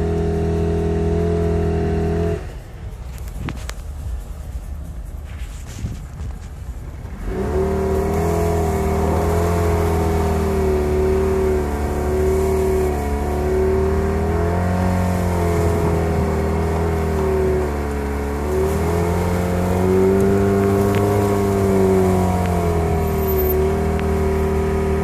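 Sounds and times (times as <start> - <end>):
car engine revving: 0.0 - 25.0
tires spinning in snow: 0.0 - 25.0.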